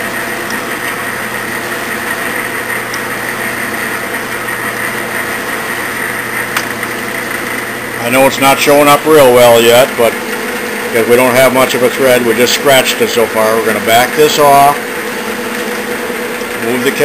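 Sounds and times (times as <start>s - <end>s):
metal lathe motor humming: 0.0s - 17.0s.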